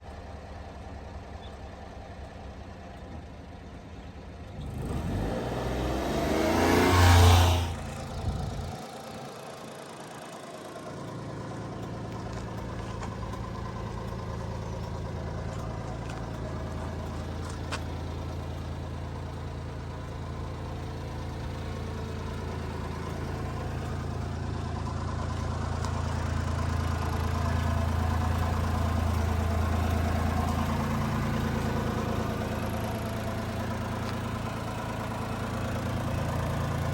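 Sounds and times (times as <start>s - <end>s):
small engine starting and idling: 4.0s - 36.9s.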